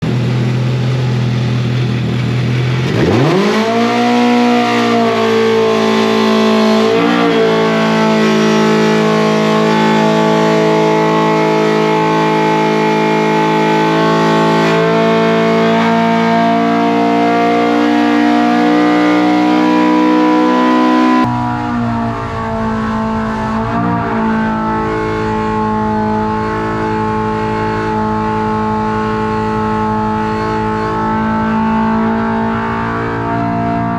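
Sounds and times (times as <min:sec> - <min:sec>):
engine revving at high pitch: 0:00.0 - 0:33.9.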